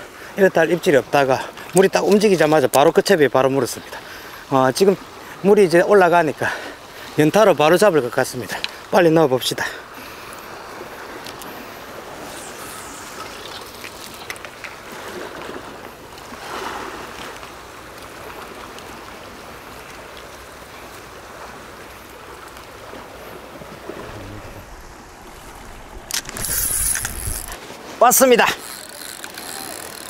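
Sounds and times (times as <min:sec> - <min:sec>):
waves lapping on rocky shore: 0:00.0 - 0:30.0.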